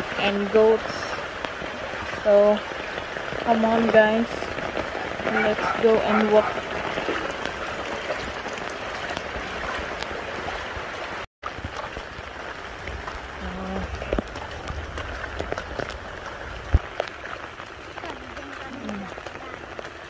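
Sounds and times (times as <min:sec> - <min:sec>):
rain falling on water and concrete: 0:00.0 - 0:20.0.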